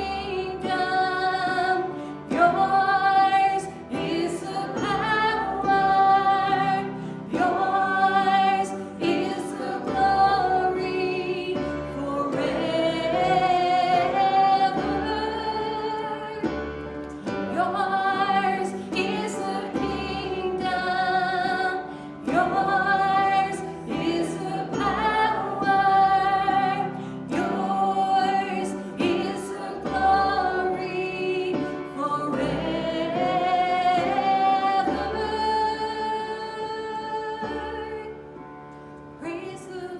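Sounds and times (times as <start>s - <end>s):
instrumental accompaniment: 0.0s - 39.9s
person singing a hymn: 0.0s - 39.9s.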